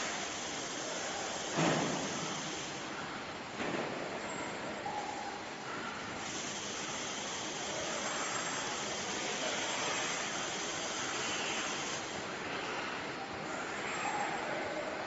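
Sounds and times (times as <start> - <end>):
machinery hiss and whir: 0.0 - 15.0.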